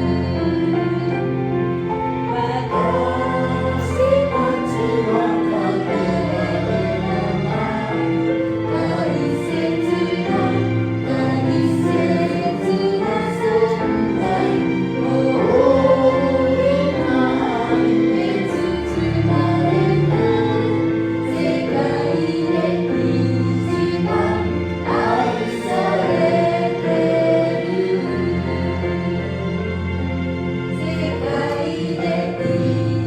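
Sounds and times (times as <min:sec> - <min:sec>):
sustained instrumental accompaniment: 0:00.0 - 0:33.0
group singing praise song: 0:02.4 - 0:29.1, 0:30.8 - 0:33.0.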